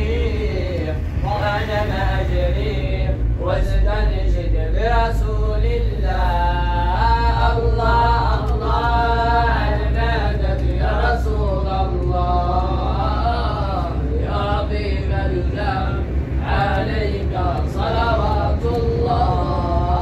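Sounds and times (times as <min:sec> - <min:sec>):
car rumbling on road: 0:00.0 - 0:20.0.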